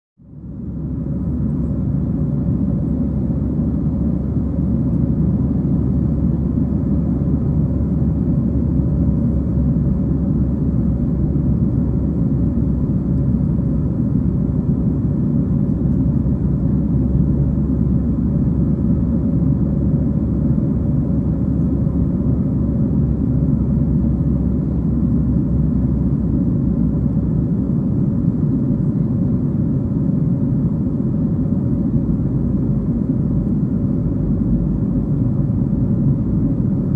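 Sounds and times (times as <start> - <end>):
faint steady hum: 0.2 - 36.9
jet engines and airflow rumble: 0.2 - 36.9.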